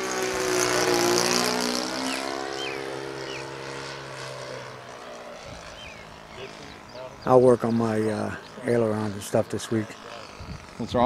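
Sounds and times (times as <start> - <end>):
model airplane engine drone: 0.0 - 11.0.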